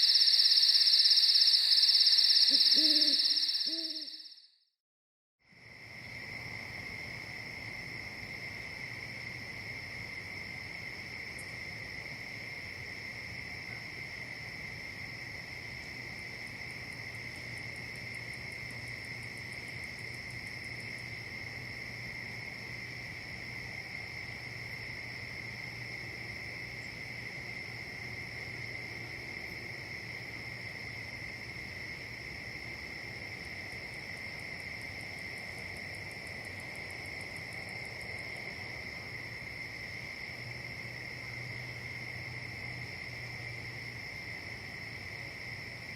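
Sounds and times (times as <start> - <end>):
insects trilling: 0.0 - 4.4, 5.8 - 45.9.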